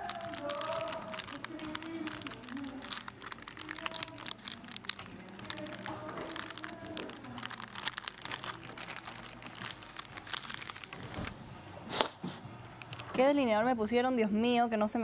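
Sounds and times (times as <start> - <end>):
plastic and tissue crinkling: 0.0 - 13.5.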